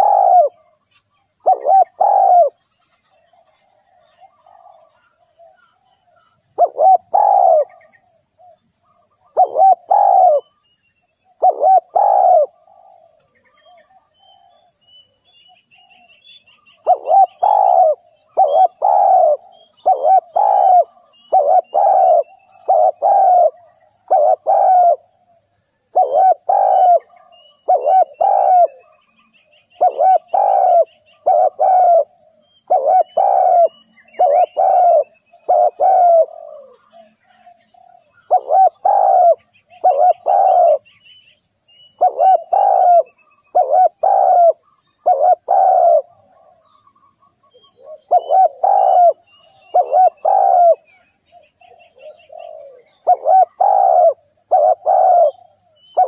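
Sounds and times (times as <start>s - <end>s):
dove cooing: 0.0s - 0.8s, 1.4s - 2.6s, 3.2s - 8.6s, 9.2s - 10.6s, 11.3s - 14.7s, 16.8s - 40.9s, 42.0s - 46.8s, 47.4s - 56.0s
small birds chirping: 0.0s - 56.0s.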